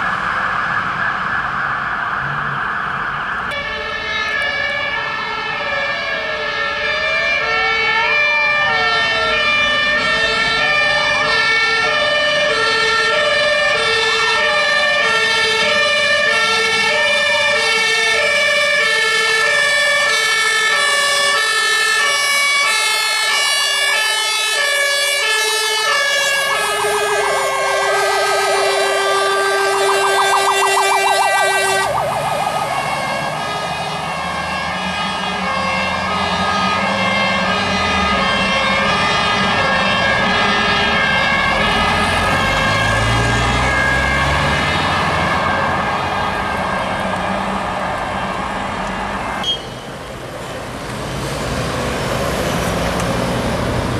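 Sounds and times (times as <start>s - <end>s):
fast yelp siren: 0.0s - 46.6s
two-tone hi-lo siren: 0.0s - 46.8s
wailing siren: 0.0s - 49.5s.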